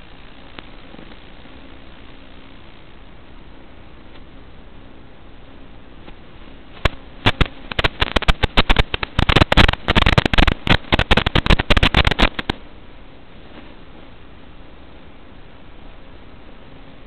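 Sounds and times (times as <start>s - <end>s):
crackling popping static: 0.0s - 17.0s
faint steady hiss: 0.0s - 17.0s.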